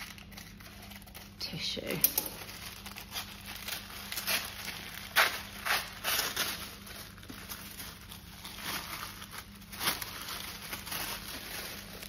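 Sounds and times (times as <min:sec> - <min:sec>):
paper and plastic rustling: 0:00.0 - 0:12.0.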